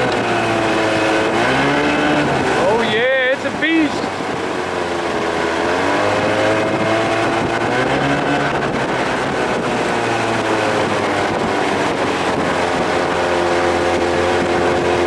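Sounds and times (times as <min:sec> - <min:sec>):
outboard motor running: 0:00.0 - 0:15.0
wind noise on microphone: 0:00.0 - 0:15.0.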